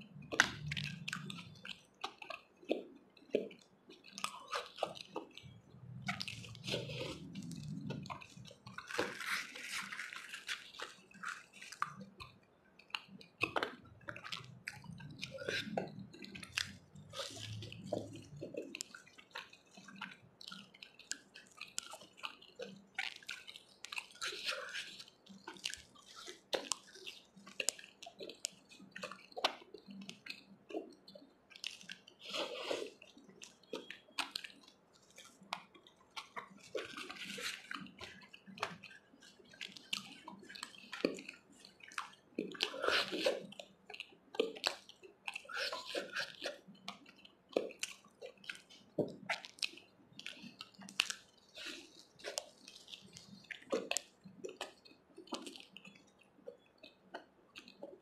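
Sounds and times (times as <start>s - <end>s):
person chewing wetly: 0.0s - 58.0s.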